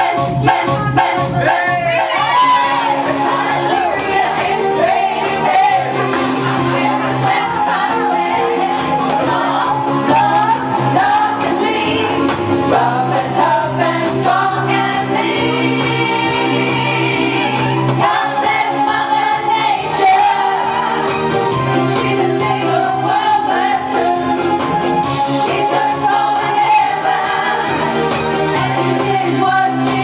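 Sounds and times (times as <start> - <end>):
karaoke backing track: 0.0 - 30.0.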